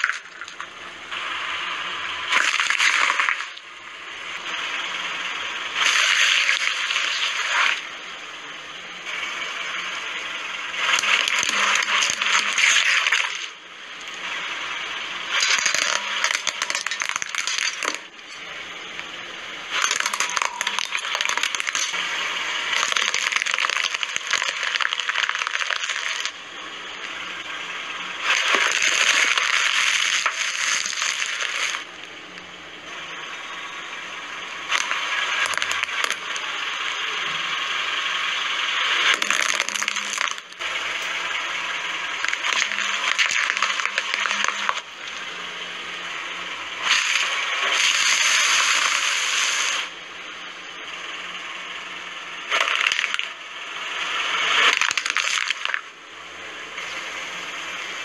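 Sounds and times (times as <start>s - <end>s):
car tyre crushing objects: 0.0s - 8.0s, 9.0s - 50.0s, 52.4s - 57.8s.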